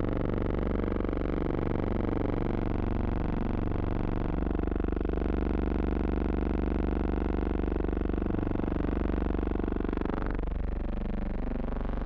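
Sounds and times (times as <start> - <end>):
steady buzzing drone: 0.0 - 12.0.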